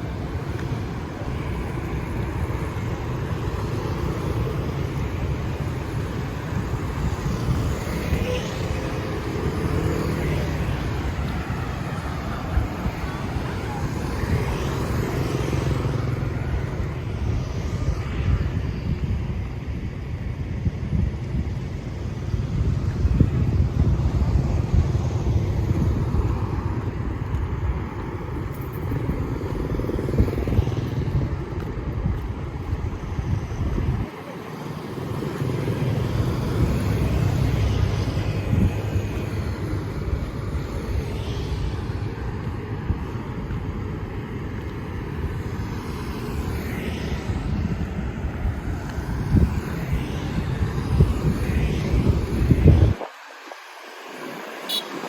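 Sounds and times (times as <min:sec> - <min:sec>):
motorbikes passing: 0:00.0 - 0:55.0
road traffic rumble: 0:00.0 - 0:55.0.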